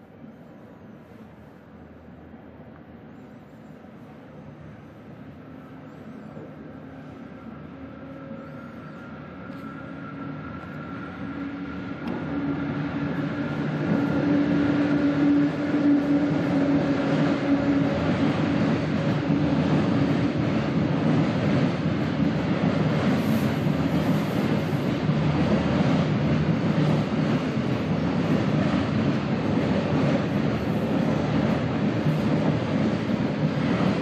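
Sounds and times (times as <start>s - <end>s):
electric locomotive humming: 0.0s - 34.0s.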